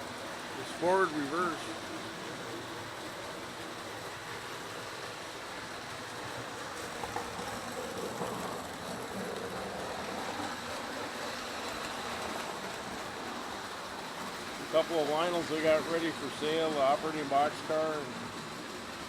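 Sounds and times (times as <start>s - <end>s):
model trains running on track: 0.0s - 19.0s.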